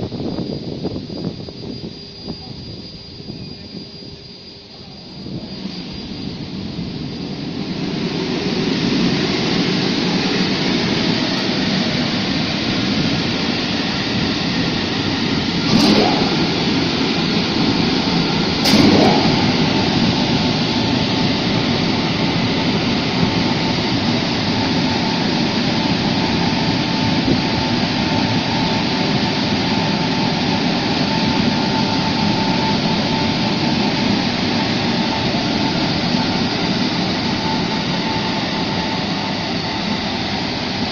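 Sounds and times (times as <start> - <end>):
car wash air dryer blowers roaring: 5.2 - 40.9.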